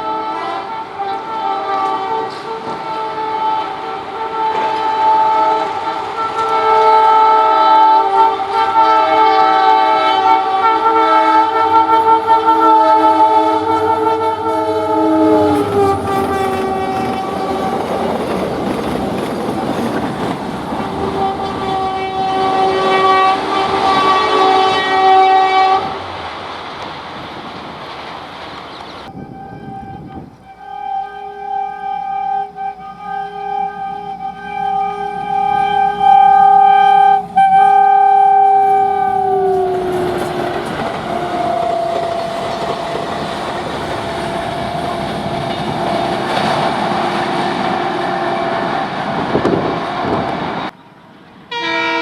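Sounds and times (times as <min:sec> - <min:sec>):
train air horn: 0:00.0 - 0:19.9, 0:20.7 - 0:26.2, 0:29.1 - 0:50.7, 0:51.5 - 0:52.0
passing train rumble and rattle: 0:00.0 - 0:52.0.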